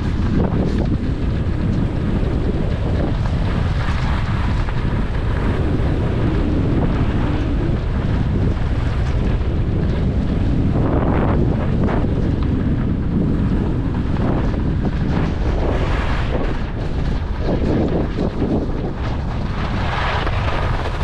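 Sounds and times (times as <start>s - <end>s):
skis scraping on hard snow: 0.0s - 21.0s
wind buffeting microphone: 0.0s - 21.0s.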